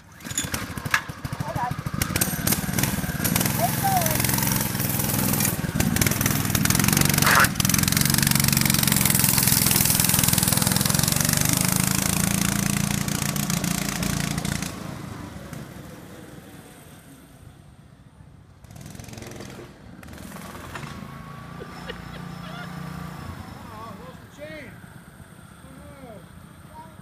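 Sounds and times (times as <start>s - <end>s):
minibike engine running: 0.0s - 27.0s.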